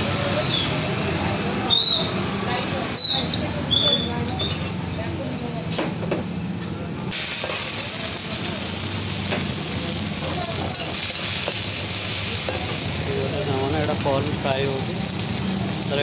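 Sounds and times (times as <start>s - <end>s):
oil sizzling in a wok: 0.0s - 5.1s, 7.1s - 16.0s.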